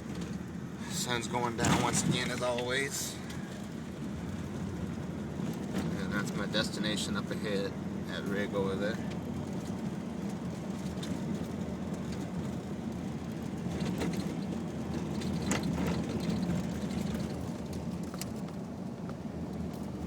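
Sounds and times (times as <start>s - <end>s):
vehicle engine and tyres on road: 0.0s - 20.0s.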